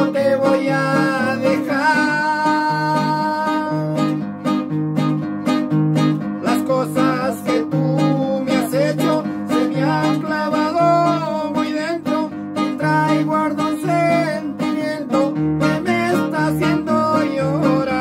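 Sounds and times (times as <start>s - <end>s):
man singing: 0.0s - 4.2s, 6.3s - 18.0s
acoustic guitars strummed: 0.0s - 18.0s.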